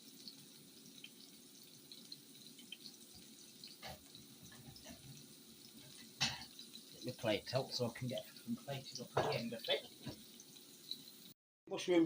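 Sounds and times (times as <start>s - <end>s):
mushrooms sizzling in a pan: 0.0s - 11.4s.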